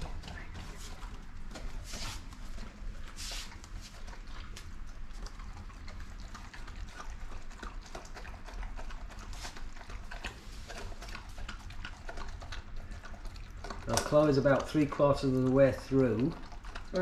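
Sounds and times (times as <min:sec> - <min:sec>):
dog eating from metal bowl: 0:00.0 - 0:17.0.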